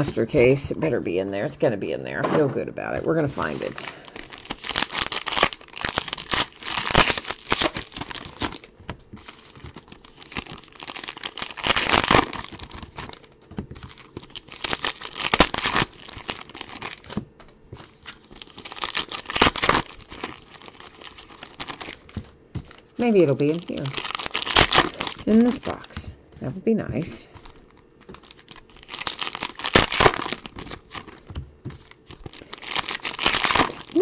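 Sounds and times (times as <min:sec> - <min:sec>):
packaging tearing and crinkling: 0:03.5 - 0:17.2, 0:17.8 - 0:26.1, 0:27.4 - 0:34.0.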